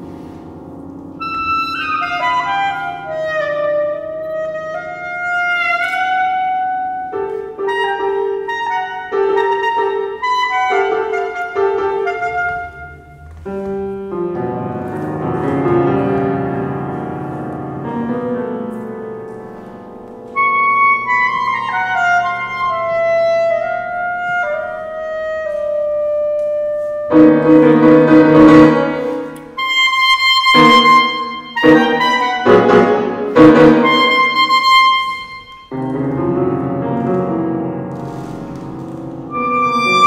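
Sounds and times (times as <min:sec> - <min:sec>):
piano chords: 0:00.0 - 0:40.0
clarinet: 0:00.2 - 0:40.0.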